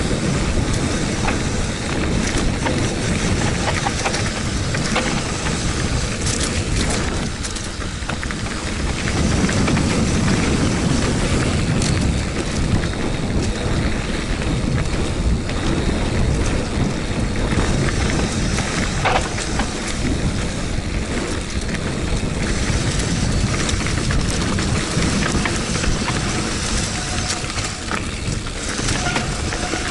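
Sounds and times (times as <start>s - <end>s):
bike rattling over rocky trail: 0.0s - 29.9s
wheels knocking on stones: 0.0s - 29.9s
wind buffeting microphone: 0.0s - 29.9s.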